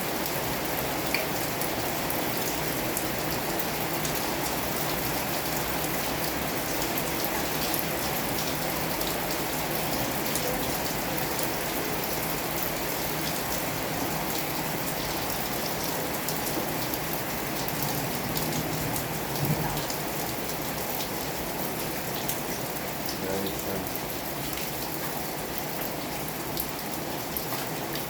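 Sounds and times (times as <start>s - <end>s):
heavy rain falling: 0.0s - 28.0s
raindrops ticking on a surface: 0.0s - 28.0s.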